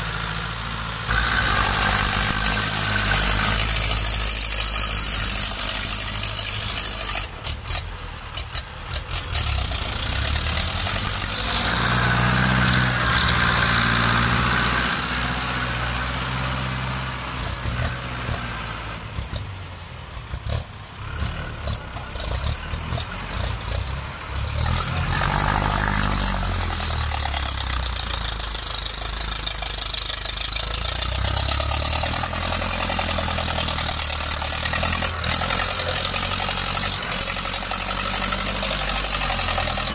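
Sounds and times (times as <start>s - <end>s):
tractor diesel engines under load: 0.0s - 39.9s.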